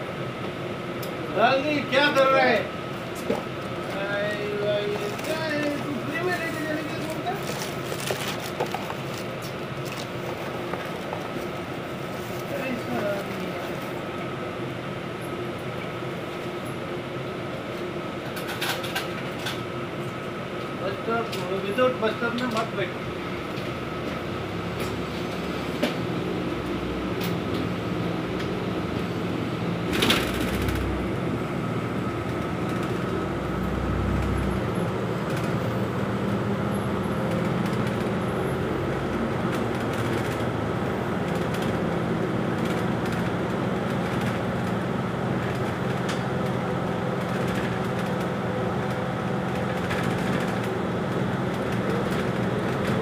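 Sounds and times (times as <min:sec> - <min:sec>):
bus engine and road drone: 0:00.0 - 0:53.0.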